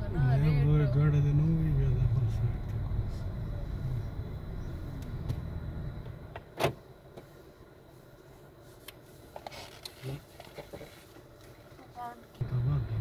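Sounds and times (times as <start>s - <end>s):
street noise: 0.0s - 13.0s
vehicle low rumble: 0.0s - 13.0s.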